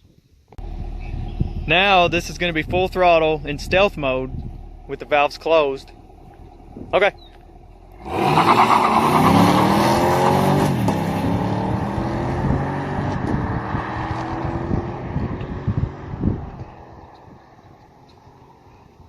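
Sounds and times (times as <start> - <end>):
car engine at full throttle: 0.6 - 18.9.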